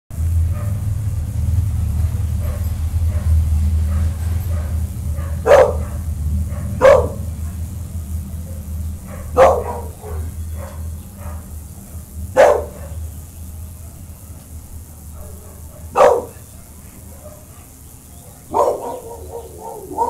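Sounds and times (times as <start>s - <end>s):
steady low rumble: 0.1s - 20.0s
dogs barking: 0.4s - 1.2s, 2.0s - 20.0s.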